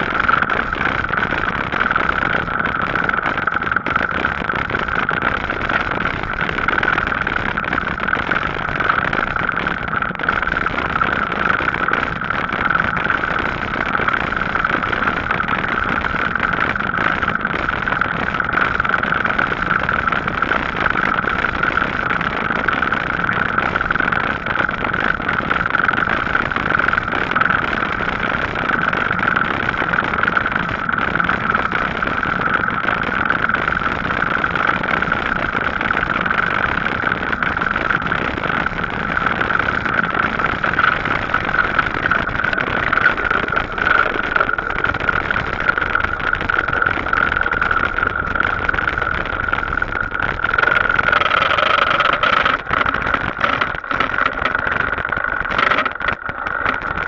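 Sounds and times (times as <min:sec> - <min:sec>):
e-bike riding rush and hum: 0:00.0 - 0:57.0.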